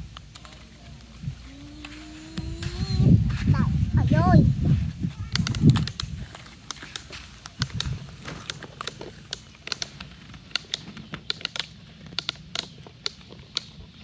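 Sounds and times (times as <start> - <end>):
plastic toys clicking in sand: 0.0 - 3.2, 4.2 - 14.0.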